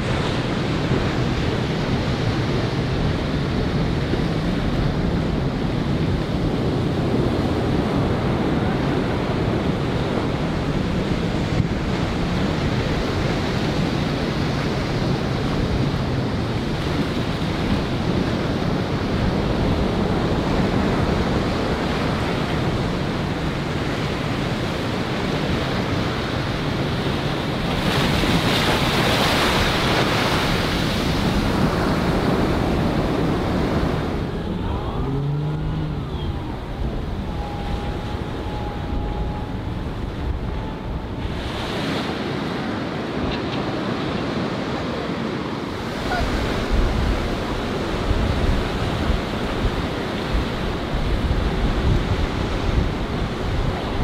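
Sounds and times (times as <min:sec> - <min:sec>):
outboard motor: 0:00.0 - 0:44.0
sea waves breaking: 0:00.0 - 0:54.0
wind buffeting microphone: 0:00.0 - 0:54.0.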